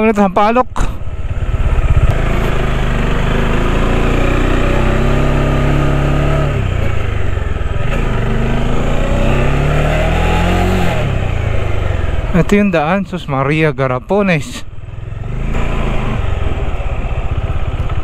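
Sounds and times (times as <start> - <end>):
motorcycle engine running: 0.0 - 13.1, 14.1 - 18.0
road noise: 0.0 - 18.0.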